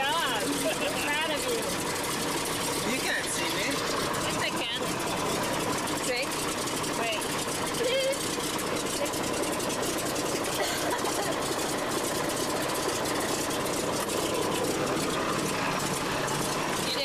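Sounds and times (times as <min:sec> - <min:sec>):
biplane engine and propeller drone: 0:00.0 - 0:17.0.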